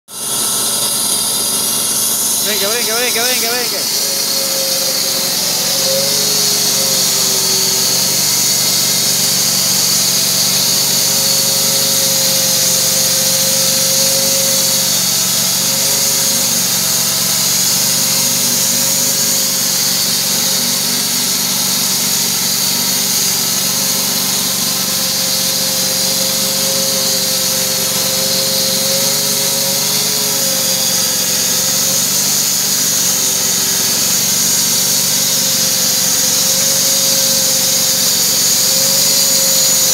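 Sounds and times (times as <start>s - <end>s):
sawmill engine drone: 0.1s - 39.9s
band saw blade hissing in wood: 0.5s - 39.9s.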